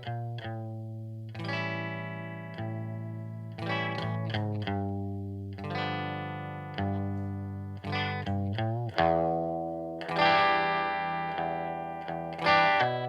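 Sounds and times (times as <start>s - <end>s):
overdriven electric guitar: 0.0s - 13.0s.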